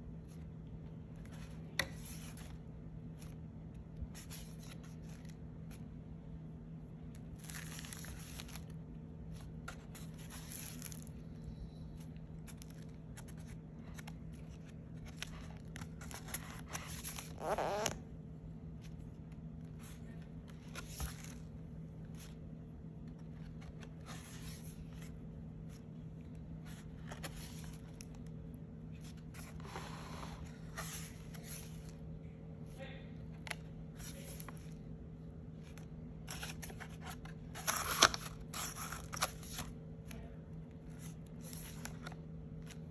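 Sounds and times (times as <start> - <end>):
cardboard pages turning: 0.2 - 6.0, 6.9 - 18.0, 18.7 - 32.0, 33.3 - 34.9, 35.5 - 42.9.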